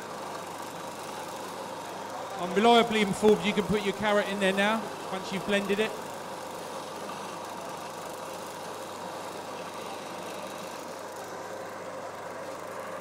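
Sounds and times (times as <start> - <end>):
electric blender motor running: 0.0 - 13.0.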